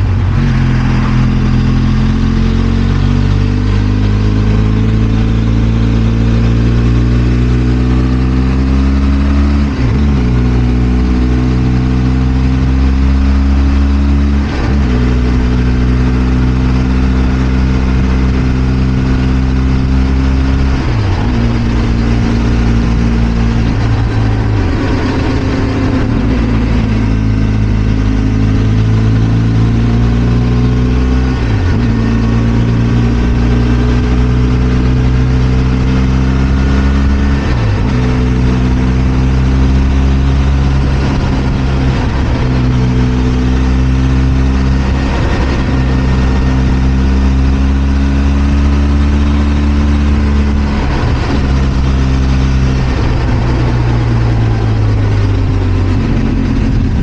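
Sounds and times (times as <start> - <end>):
motorcycle engine changing gear: 0.0 - 57.0.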